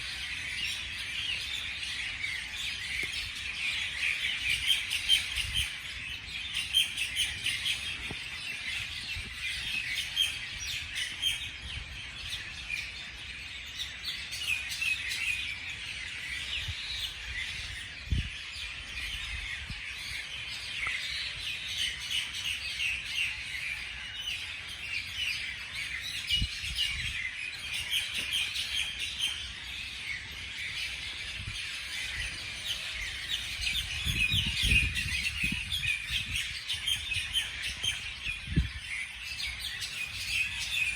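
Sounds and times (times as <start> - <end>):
small birds chirping chorus: 0.0 - 40.9.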